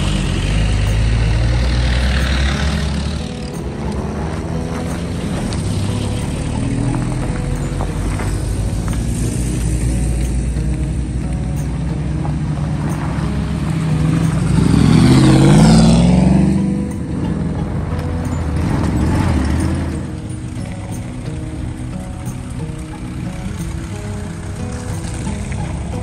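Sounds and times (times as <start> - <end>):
off-road vehicle engines passing: 0.0 - 26.0.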